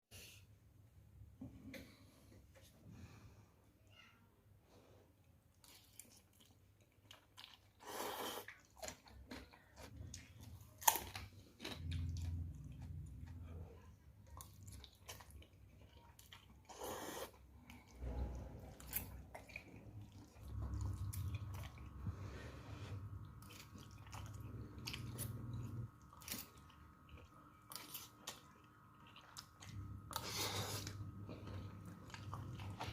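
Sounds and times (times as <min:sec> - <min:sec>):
person chewing food: 0:05.5 - 0:32.9.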